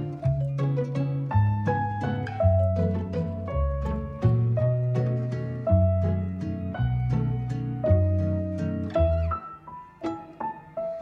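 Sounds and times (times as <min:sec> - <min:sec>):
light instrumental music: 0:00.0 - 0:11.0
low bass line: 0:00.1 - 0:09.4.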